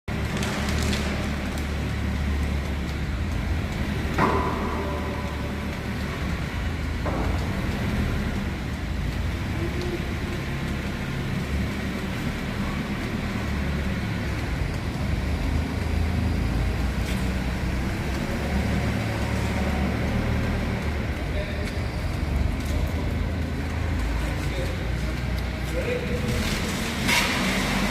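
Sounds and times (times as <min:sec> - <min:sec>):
heavy machinery engines rumbling: 0:00.1 - 0:27.9.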